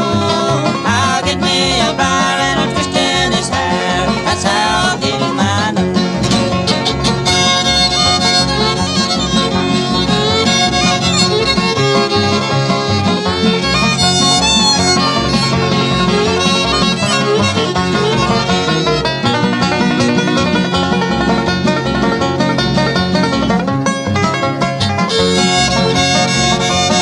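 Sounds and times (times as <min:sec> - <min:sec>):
banjo: 0:00.0 - 0:27.0
fiddle lead: 0:00.0 - 0:27.0.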